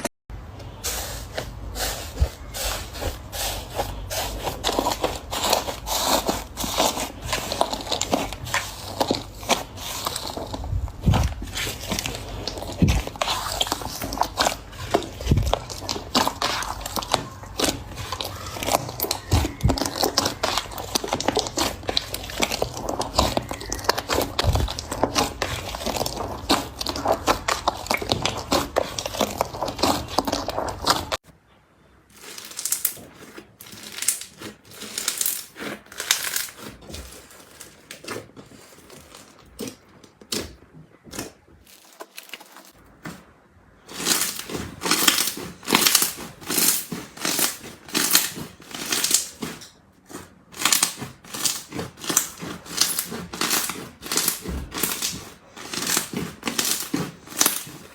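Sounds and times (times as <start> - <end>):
slime squishing: 0.0 - 31.2, 32.1 - 57.9.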